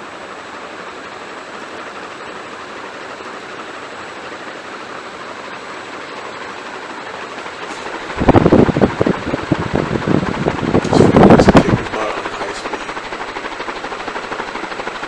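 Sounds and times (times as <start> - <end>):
ceiling fan air rushing: 0.0 - 15.0.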